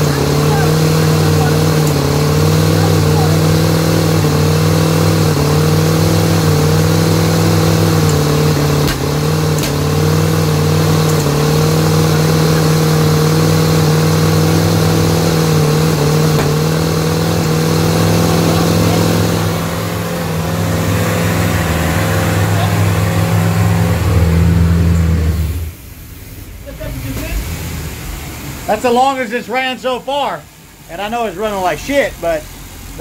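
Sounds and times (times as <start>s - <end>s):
boat engine running rough: 0.0s - 33.0s.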